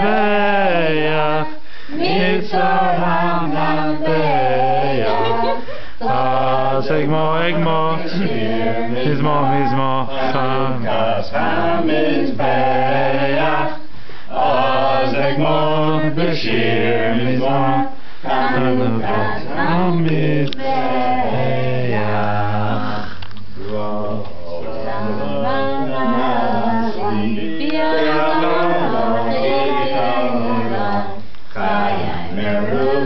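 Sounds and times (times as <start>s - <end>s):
group singing unaccompanied: 0.0s - 33.0s.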